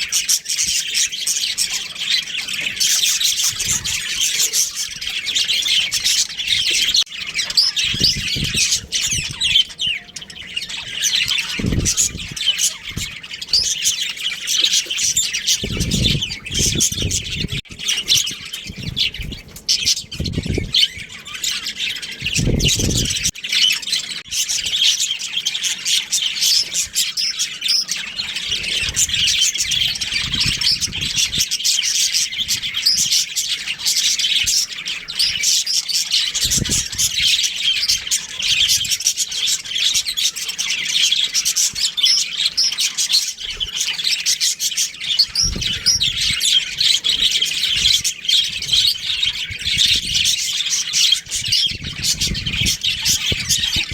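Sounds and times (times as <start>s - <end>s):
budgerigars chirping: 0.0s - 53.9s.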